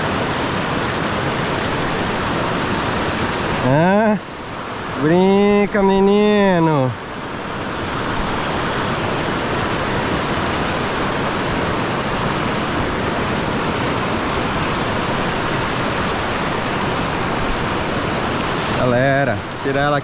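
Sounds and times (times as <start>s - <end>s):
river rapids rushing over rocks: 0.0s - 20.0s.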